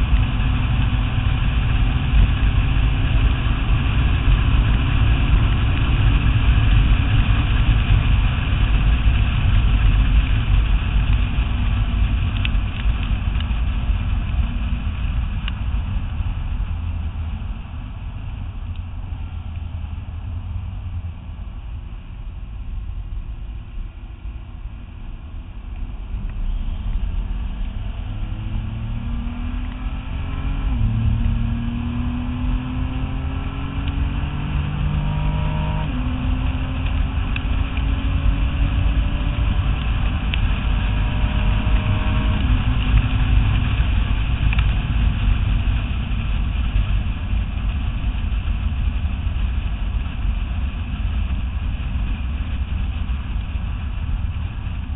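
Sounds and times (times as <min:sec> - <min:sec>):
car engine accelerating: 0:00.0 - 0:54.9
wind and road noise: 0:00.0 - 0:54.9.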